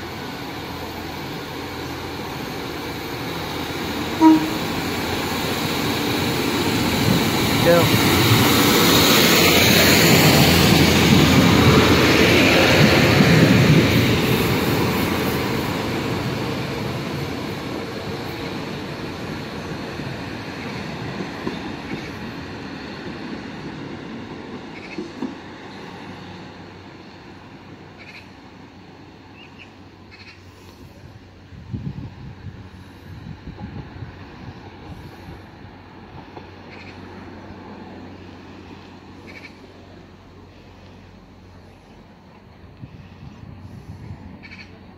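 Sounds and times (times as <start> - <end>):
diesel train running past: 0.0 - 44.9.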